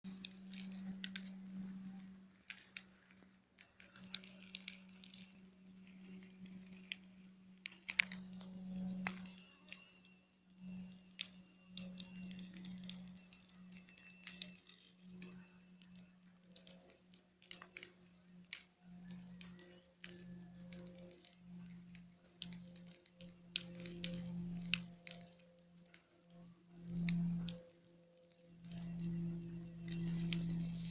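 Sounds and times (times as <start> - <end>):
sharp clicks and ticks: 0.1 - 27.6, 28.6 - 30.9
low droning hum from the sky: 0.1 - 30.9.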